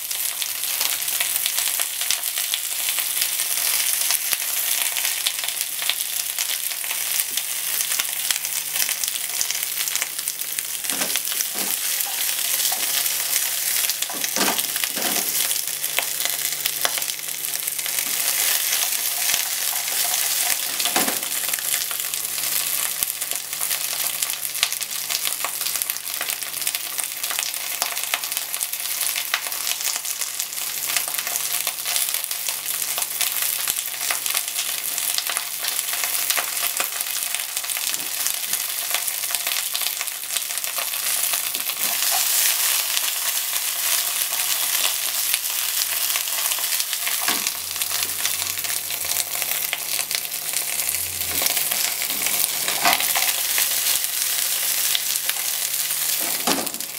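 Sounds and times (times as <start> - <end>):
food sizzling in a frying pan: 0.0 - 56.9.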